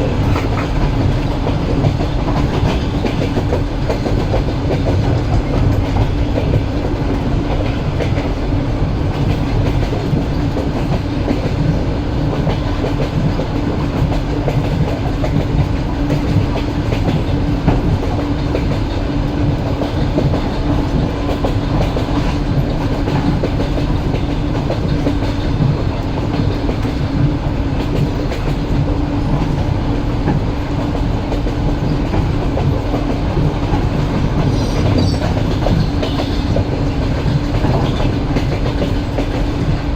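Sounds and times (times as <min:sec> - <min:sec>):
train wheels clicking on rails: 0:00.0 - 0:39.9.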